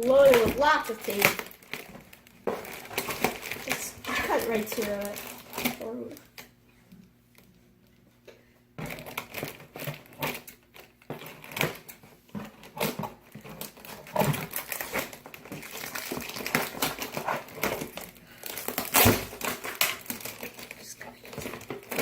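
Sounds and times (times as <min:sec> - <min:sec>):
packaging crinkling and rustling: 0:00.0 - 0:06.6, 0:08.8 - 0:22.0.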